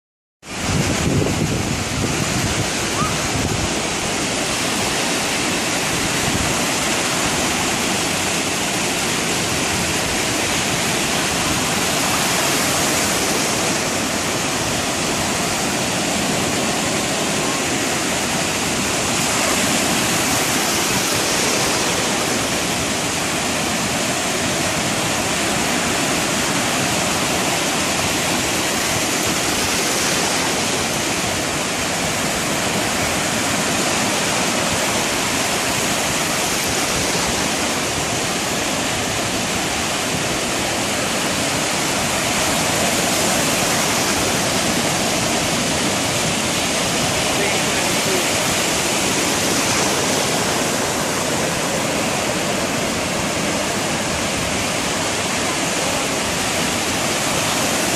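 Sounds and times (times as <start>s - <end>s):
ocean surf breaking: 0.4s - 57.9s.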